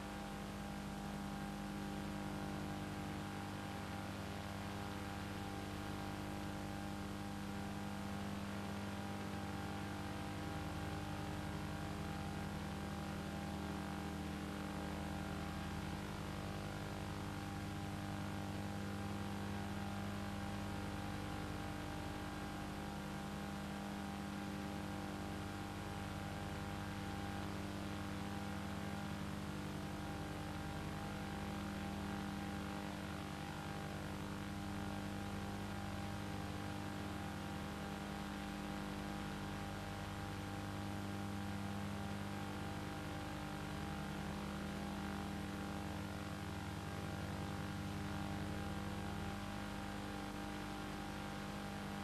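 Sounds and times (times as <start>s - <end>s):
low hum with overtones: 0.0s - 52.0s.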